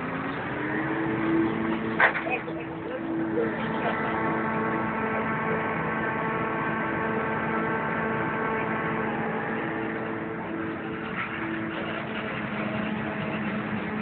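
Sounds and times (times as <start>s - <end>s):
tractor engine: 0.0s - 14.0s.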